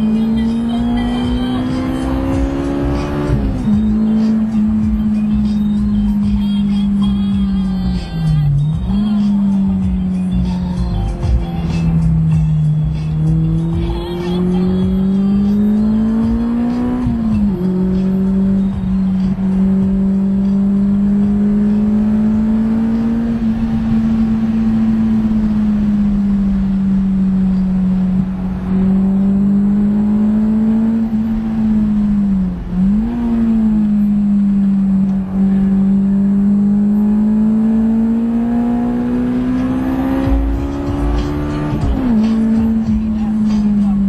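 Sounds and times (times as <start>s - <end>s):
car engine at high revs: 0.0s - 44.0s.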